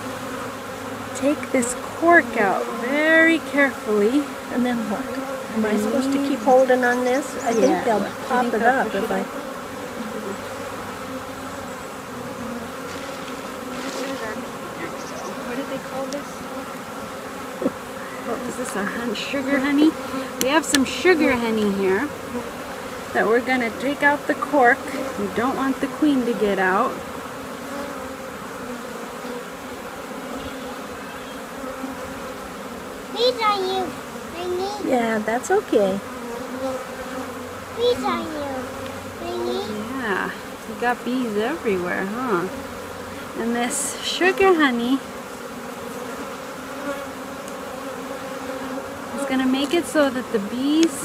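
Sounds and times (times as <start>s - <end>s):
honeybees buzzing: 0.0s - 51.0s.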